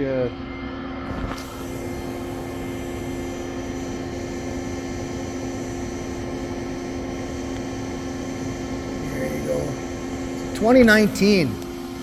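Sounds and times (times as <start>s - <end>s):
industrial machine hum: 0.0s - 12.0s.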